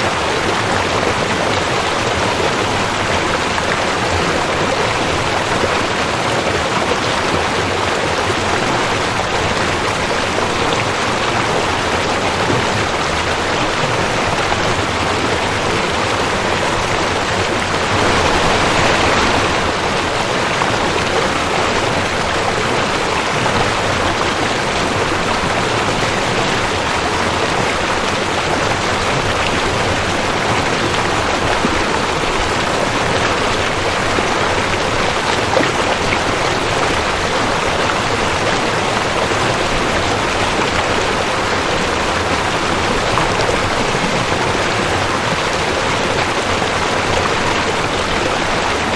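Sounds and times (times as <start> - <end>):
creek water rushing: 0.0 - 48.9.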